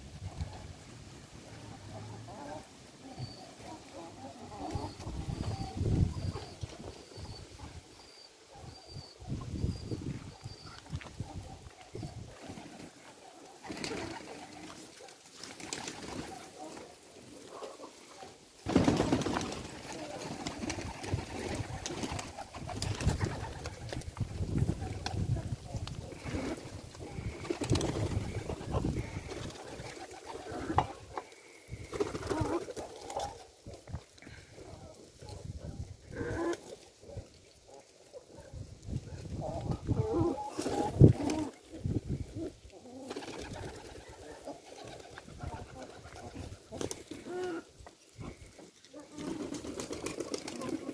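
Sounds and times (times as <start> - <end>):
pigeons cooing: 0.0 - 33.6, 34.2 - 38.4, 39.1 - 50.9.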